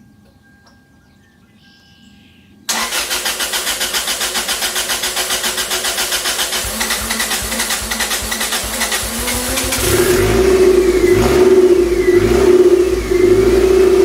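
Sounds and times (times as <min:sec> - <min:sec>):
car engine starting and running: 0:02.7 - 0:14.0.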